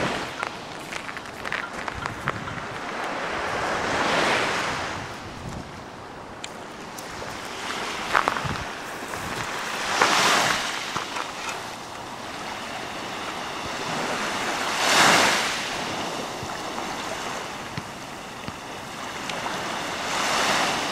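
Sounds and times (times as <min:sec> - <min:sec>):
small waves breaking on shore: 0:00.0 - 0:20.9.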